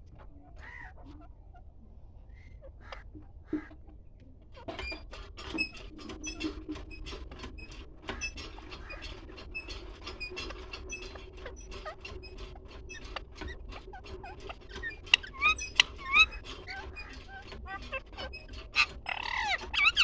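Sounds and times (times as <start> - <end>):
birds chirping and clicking: 2.3 - 20.0.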